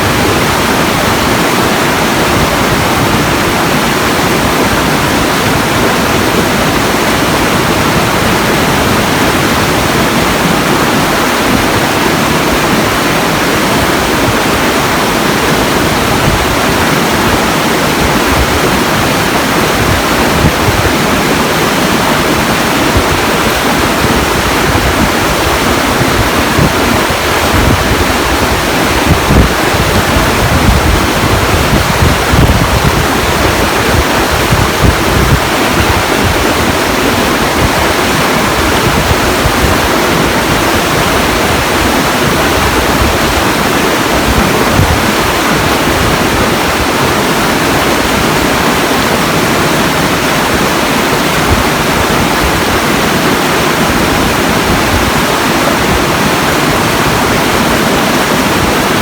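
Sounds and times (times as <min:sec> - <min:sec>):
loud rushing noise: 0:00.0 - 0:59.0.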